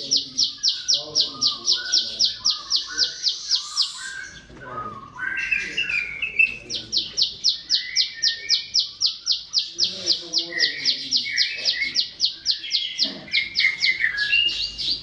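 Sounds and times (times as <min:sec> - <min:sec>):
bird singing high sharp notes: 0:00.0 - 0:15.0
bird twittering: 0:00.0 - 0:15.0.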